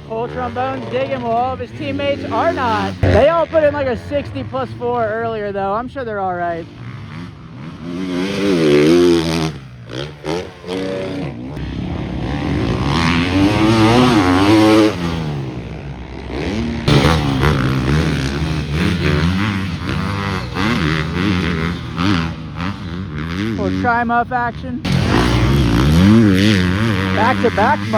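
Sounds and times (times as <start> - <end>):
motocross bikes revving past: 0.0 - 27.9.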